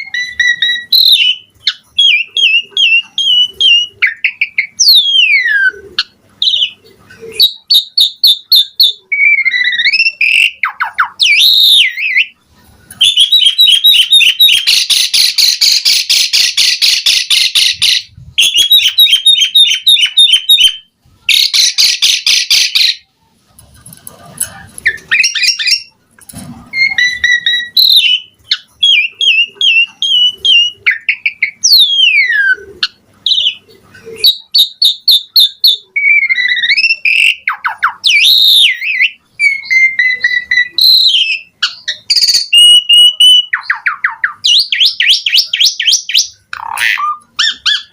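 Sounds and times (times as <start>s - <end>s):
starling singing: 0.0s - 23.4s, 24.2s - 47.9s.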